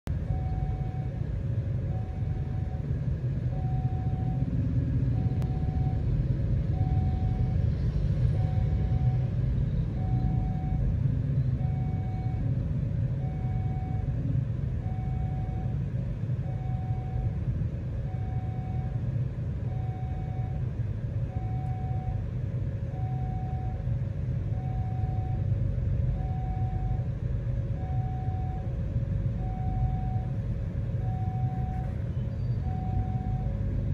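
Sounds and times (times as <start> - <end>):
idling vehicles rumbling: 0.1 - 33.9.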